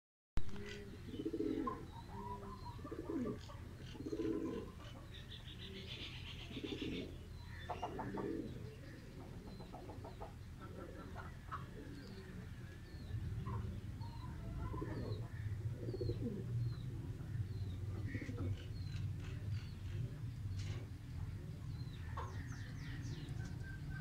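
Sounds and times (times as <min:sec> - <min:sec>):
pigeons cooing: 0:00.5 - 0:24.0
small birds chirping: 0:00.5 - 0:24.0.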